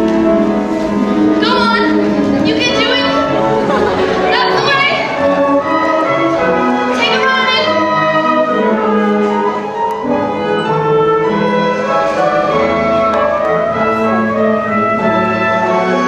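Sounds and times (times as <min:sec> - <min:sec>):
slow orchestral music: 0:00.0 - 0:16.0.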